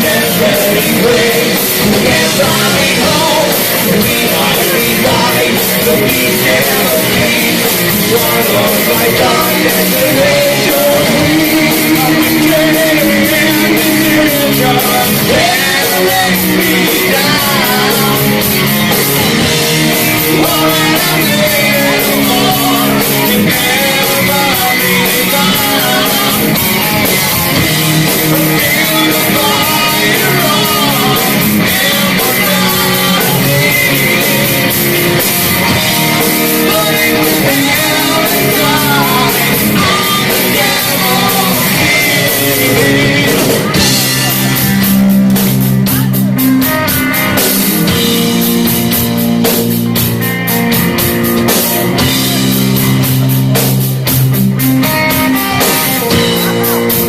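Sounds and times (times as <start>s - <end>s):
drum kit: 0.0s - 57.0s
electric guitars: 0.0s - 57.0s
yelled singing: 0.0s - 57.0s.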